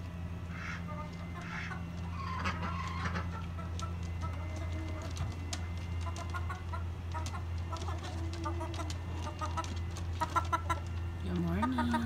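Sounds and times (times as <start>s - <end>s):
chickens clucking: 0.0s - 12.0s
steady low hum: 0.0s - 12.0s.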